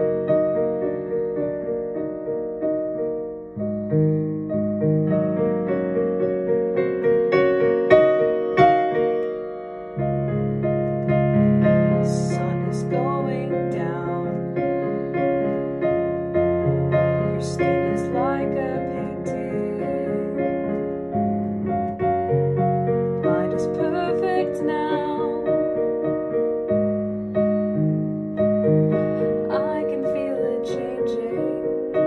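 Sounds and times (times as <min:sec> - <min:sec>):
digital piano chords and melody: 0:00.0 - 0:32.0.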